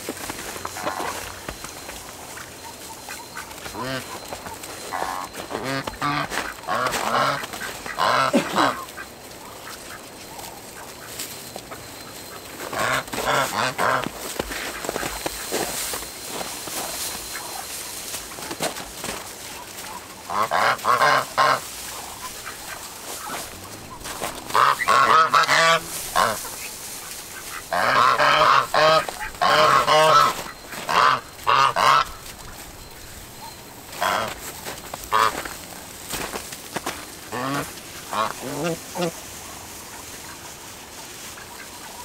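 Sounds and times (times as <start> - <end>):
geese honking: 0.0 - 42.0.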